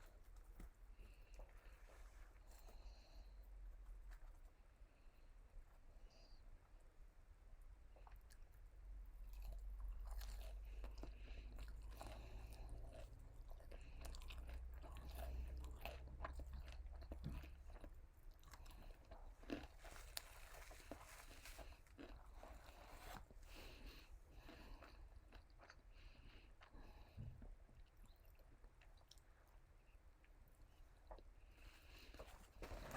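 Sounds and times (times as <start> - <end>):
chewing and crunching food: 0.0 - 32.9.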